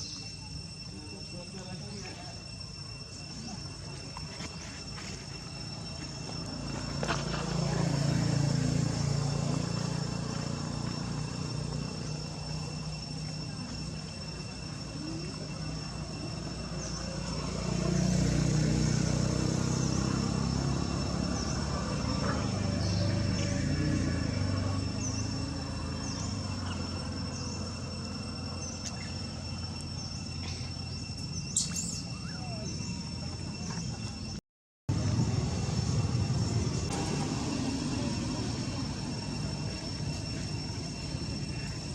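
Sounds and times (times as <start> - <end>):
high insect drone: 0.0 - 41.9
low engine rumble: 0.0 - 41.9.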